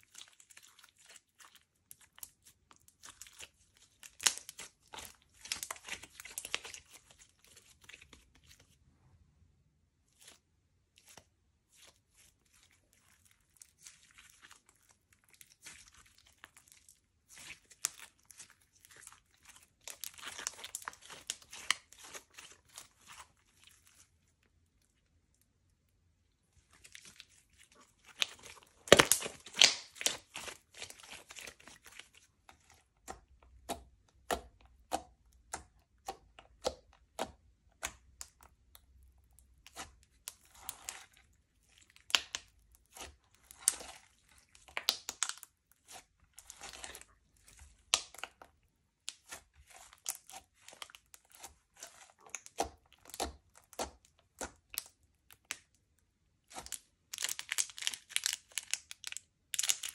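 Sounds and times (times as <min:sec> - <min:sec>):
slime crackling and popping: 0:00.1 - 0:08.2, 0:13.1 - 0:24.0, 0:26.8 - 0:55.8, 0:56.4 - 0:59.9.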